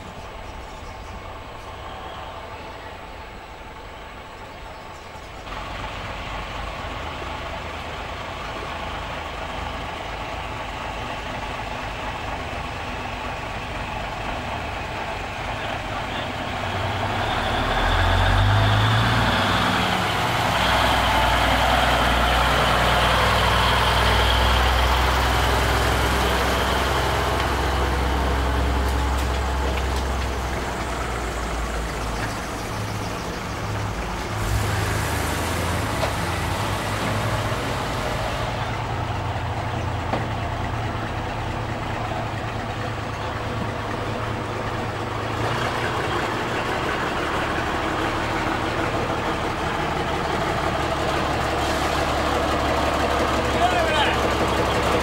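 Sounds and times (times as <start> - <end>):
diesel lorries engine rumble: 0.0 - 55.0.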